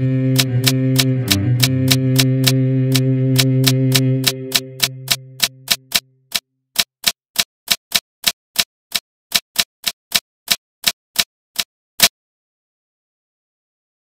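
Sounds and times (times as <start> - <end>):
keystroke clicks: 0.4 - 12.1.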